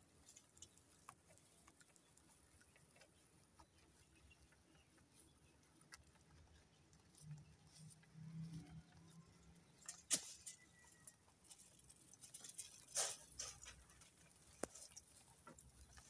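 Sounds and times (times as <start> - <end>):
rabbits chewing grass: 0.0 - 16.0.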